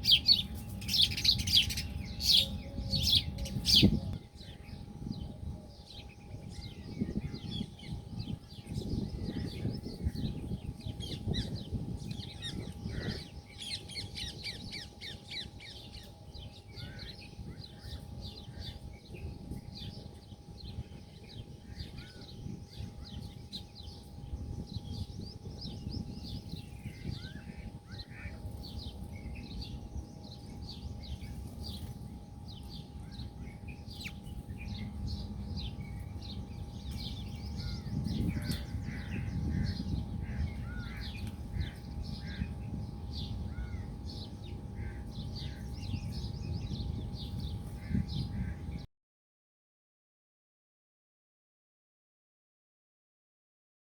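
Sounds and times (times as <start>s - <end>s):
birds chirping and calling: 0.0s - 48.8s.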